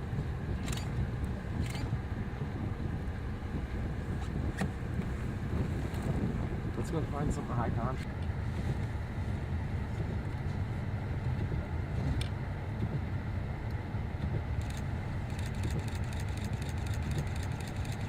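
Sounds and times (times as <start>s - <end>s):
vehicle driving low rumble: 0.0s - 18.0s.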